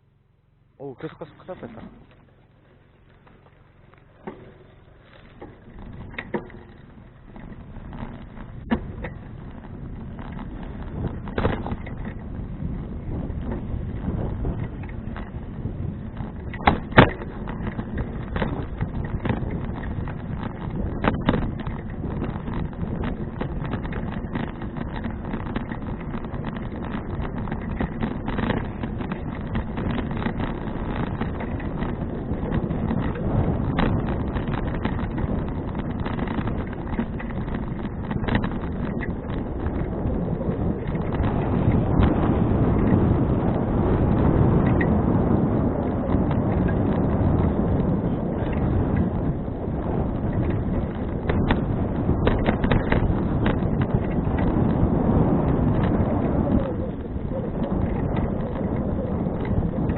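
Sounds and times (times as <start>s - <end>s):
bicycle knocks and rattles: 1.0s - 59.9s
wind on microphone: 3.0s - 59.9s.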